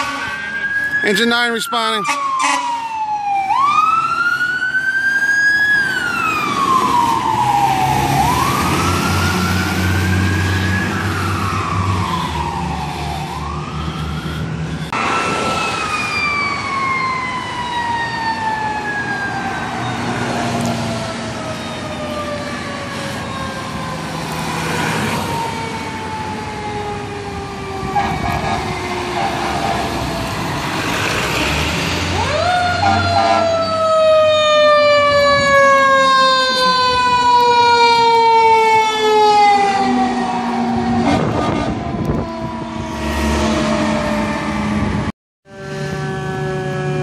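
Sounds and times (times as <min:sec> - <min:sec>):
fire truck siren wailing: 0:00.0 - 0:47.0
siren falling in long sweep: 0:00.0 - 0:47.0.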